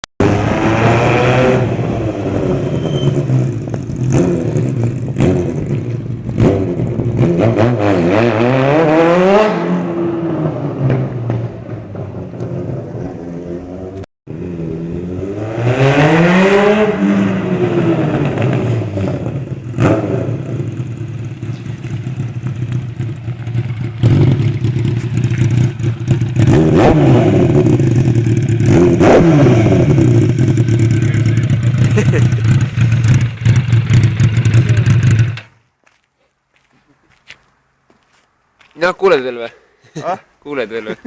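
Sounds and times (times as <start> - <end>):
motorcycle engine idling and revving: 0.0 - 35.7.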